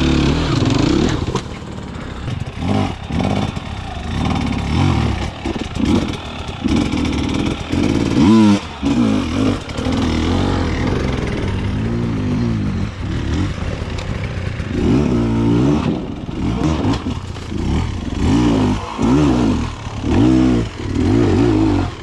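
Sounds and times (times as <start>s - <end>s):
off-road motorcycle engines revving: 0.0s - 22.0s.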